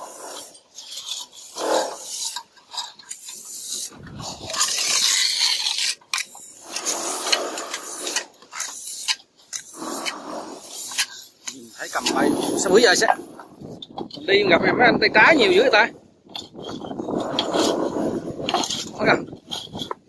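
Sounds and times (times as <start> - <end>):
trowel scraping mortar: 0.0 - 20.0.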